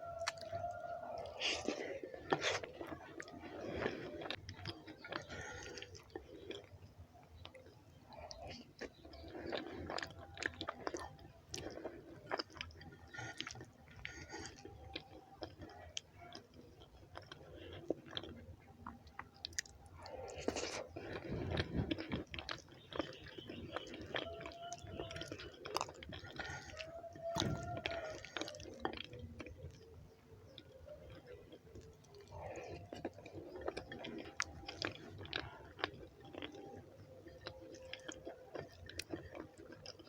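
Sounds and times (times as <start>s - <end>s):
wet chewing smacks: 0.0s - 40.0s.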